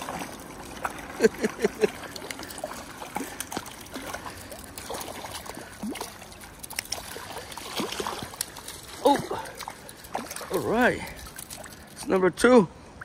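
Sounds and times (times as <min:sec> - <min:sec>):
fish thrashing in water: 0:00.0 - 0:12.0
river current washing: 0:00.0 - 0:13.0.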